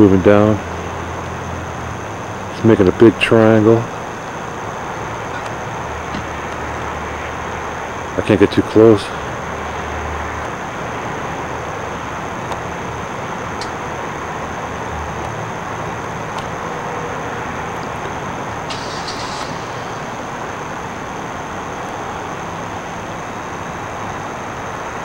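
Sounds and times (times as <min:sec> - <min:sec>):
distant road traffic: 0:00.0 - 0:25.0.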